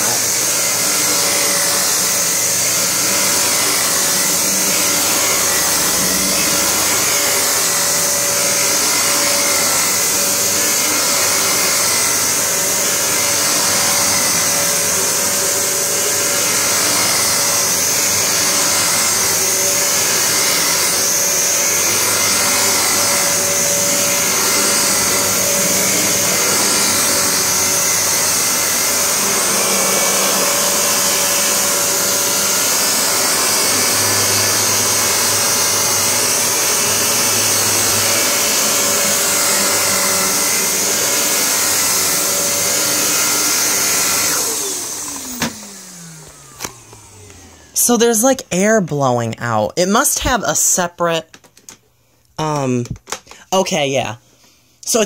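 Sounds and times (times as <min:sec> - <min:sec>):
vacuum cleaner running on carpet: 0:00.0 - 0:48.1.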